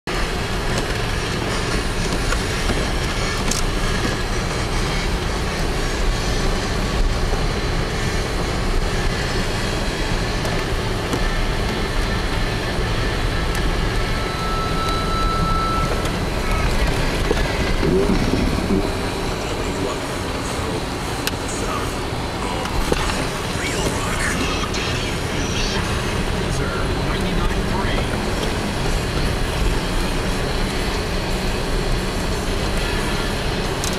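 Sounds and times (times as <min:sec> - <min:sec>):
vehicle cabin rumble: 0:00.1 - 0:33.9.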